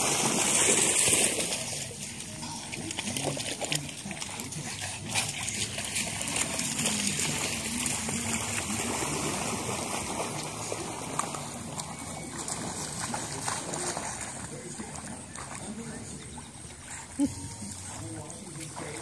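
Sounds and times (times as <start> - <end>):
floodwater splashing and sloshing: 0.0 - 19.0.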